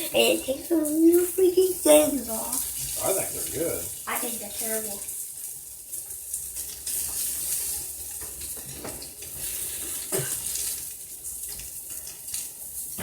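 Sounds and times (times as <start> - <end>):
steady kitchen hiss: 0.0 - 13.0.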